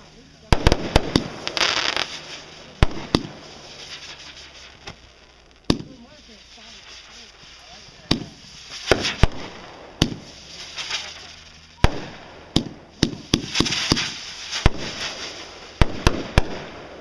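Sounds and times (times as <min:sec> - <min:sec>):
crackling hiss: 0:00.0 - 0:17.0
fireworks bangs: 0:00.0 - 0:17.0.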